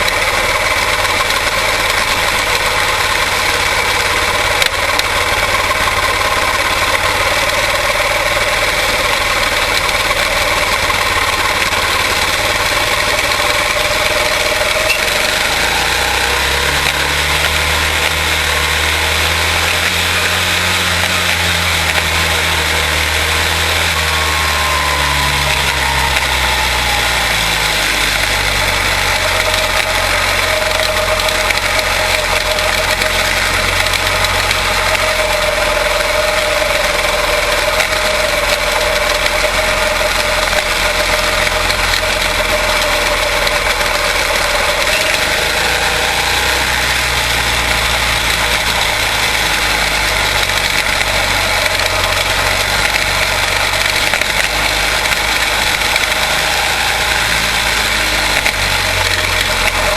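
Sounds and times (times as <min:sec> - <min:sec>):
small race car engines droning: 0:00.0 - 0:59.9.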